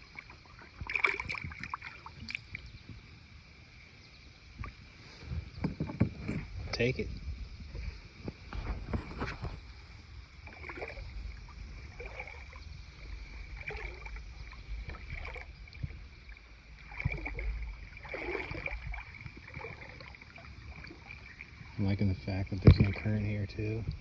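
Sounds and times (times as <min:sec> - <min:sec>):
water swishing and splashing: 0:00.0 - 0:03.5, 0:04.5 - 0:24.0
wind on microphone: 0:04.5 - 0:24.0.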